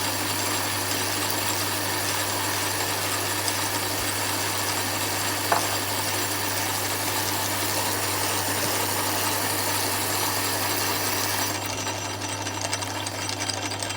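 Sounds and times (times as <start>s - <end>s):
lathe running: 0.0s - 13.9s.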